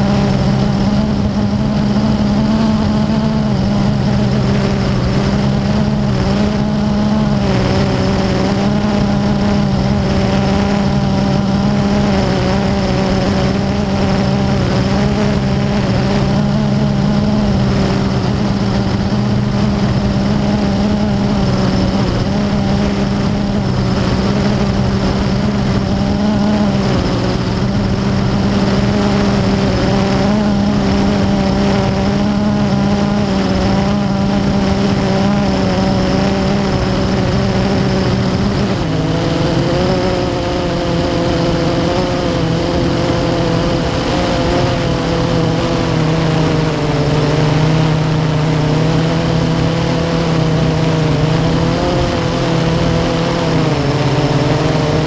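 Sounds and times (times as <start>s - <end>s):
quadcopter motors humming: 0.0s - 55.0s.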